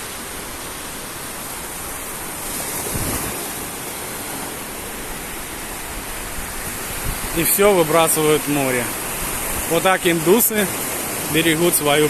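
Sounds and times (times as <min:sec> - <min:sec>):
sea surf washing onto shore: 0:00.0 - 0:12.0.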